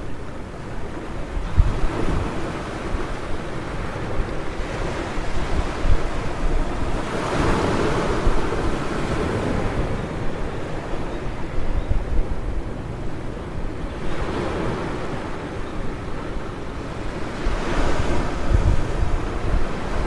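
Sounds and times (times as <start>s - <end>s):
ocean surf breaking: 0.0s - 11.6s, 12.2s - 20.0s
wind buffeting microphone: 0.0s - 20.0s.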